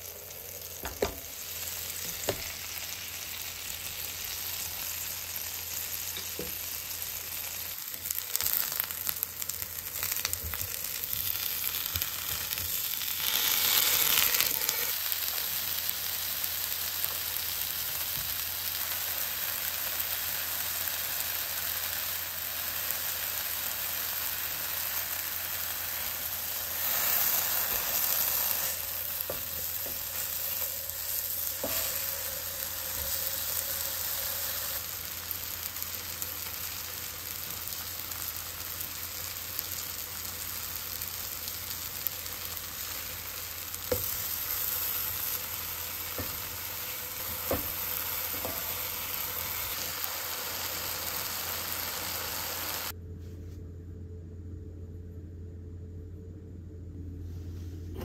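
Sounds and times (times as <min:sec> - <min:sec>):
apple rings sizzling in butter: 0:00.0 - 0:52.9.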